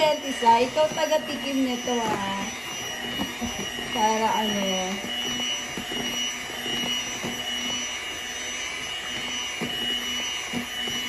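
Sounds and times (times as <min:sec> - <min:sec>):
electric hand mixer whirring: 0:00.0 - 0:11.0.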